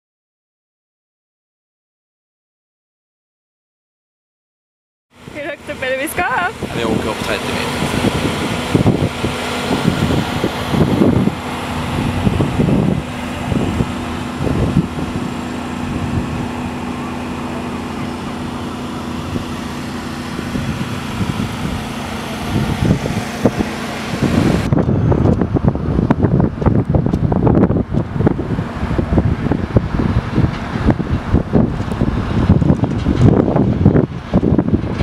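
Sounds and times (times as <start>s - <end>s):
crane engine humming: 5.1s - 35.0s
wind buffeting microphone: 5.2s - 35.0s.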